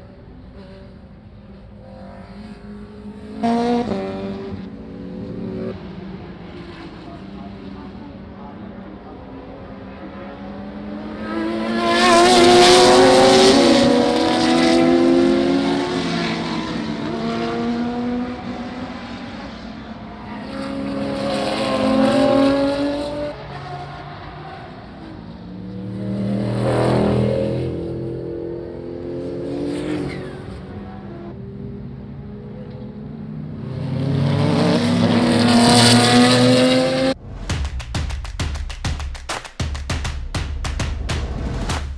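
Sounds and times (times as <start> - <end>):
racing cars passing at speed: 0.0 - 37.5.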